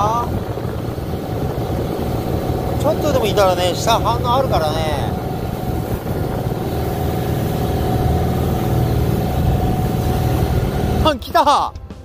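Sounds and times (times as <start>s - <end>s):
water rushing along hull: 0.0s - 11.9s
boat engine running: 0.0s - 12.0s.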